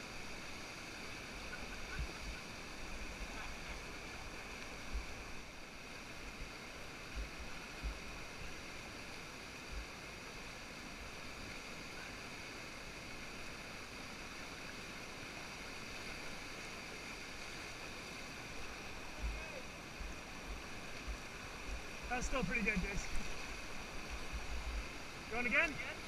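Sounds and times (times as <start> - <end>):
whitewater rushing: 0.0 - 26.0.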